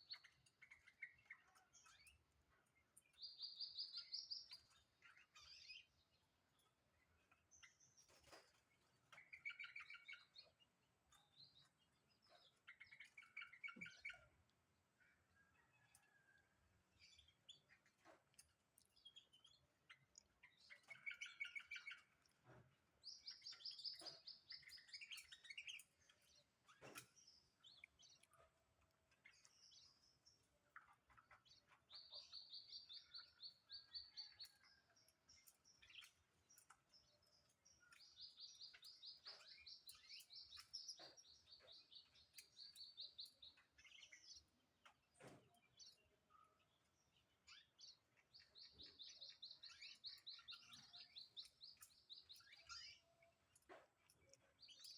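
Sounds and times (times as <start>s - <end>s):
bird chirps: 0.0s - 16.4s, 17.0s - 54.9s.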